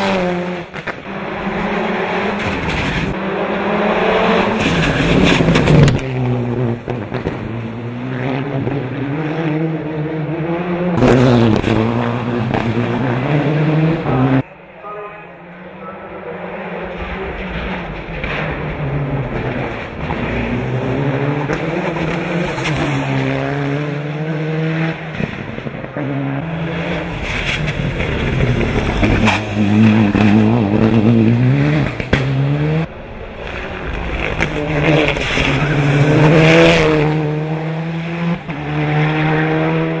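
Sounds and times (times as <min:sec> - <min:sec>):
car engine revving hard: 0:00.0 - 0:14.4, 0:16.3 - 0:32.9, 0:33.5 - 0:40.0.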